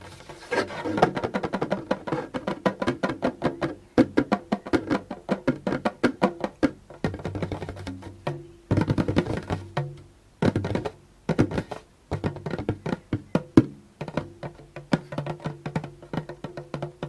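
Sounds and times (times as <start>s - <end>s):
fingers tapping on a hand drum: 0.0s - 17.0s.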